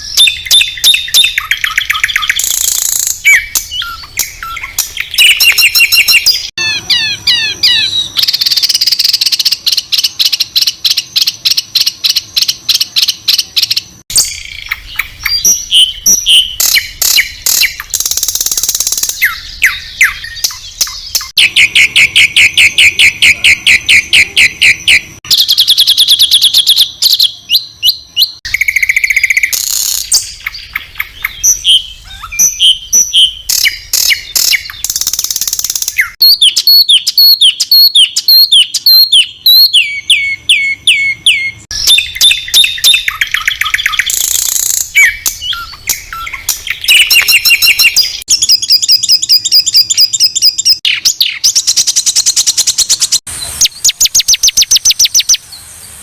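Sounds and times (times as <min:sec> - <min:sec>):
high-pitched bird song with trills: 0:00.0 - 0:55.4.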